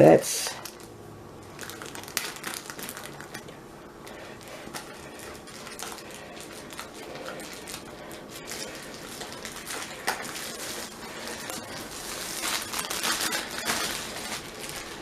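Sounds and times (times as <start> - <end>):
packaging rustling and crinkling: 0.6 - 15.0.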